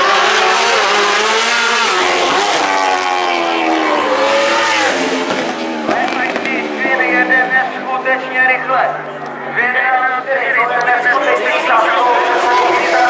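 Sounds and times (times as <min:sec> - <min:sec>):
racing motorcycle engines at high revs: 0:00.0 - 0:13.0.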